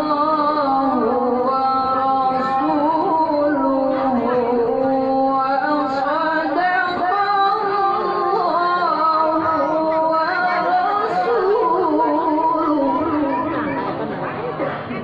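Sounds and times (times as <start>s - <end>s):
man chanting melodically: 0.0s - 14.5s.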